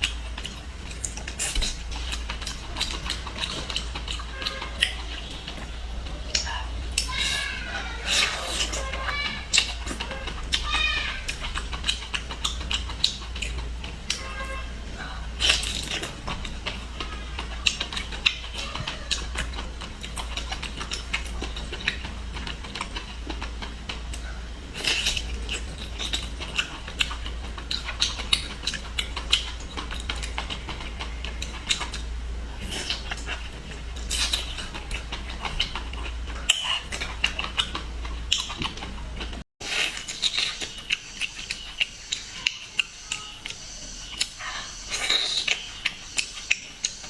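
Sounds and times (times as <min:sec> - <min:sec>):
wet chewing and lip smacking: 0:00.0 - 0:14.4, 0:15.1 - 0:47.0.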